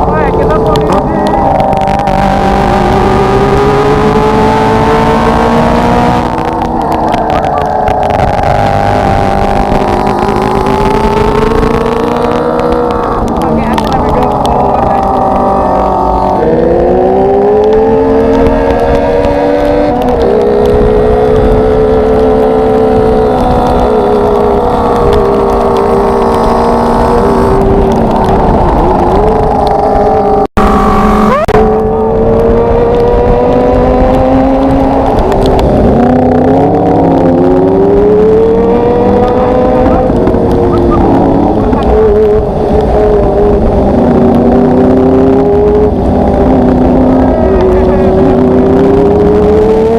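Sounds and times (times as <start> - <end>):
motorcycle engine running: 0.0 - 49.9
rush of noise: 0.0 - 49.9.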